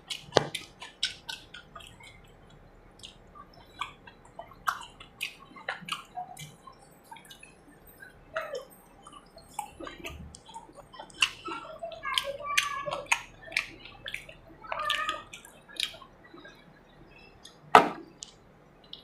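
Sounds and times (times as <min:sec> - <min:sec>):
wet mouth eating sounds: 0:00.0 - 0:19.0.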